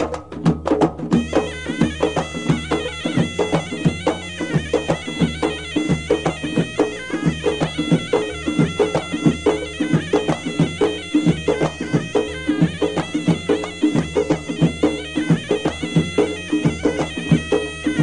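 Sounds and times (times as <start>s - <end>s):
steady drum beat: 0.0s - 18.0s
reedy bagpipe-like melody: 1.1s - 18.0s.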